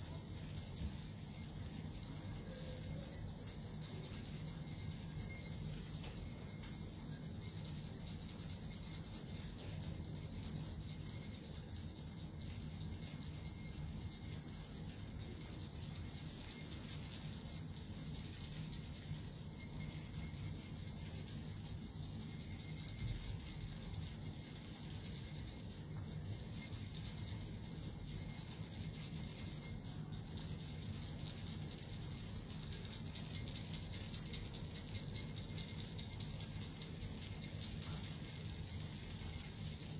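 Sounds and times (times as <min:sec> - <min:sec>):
bells jingling: 0:00.0 - 0:39.9.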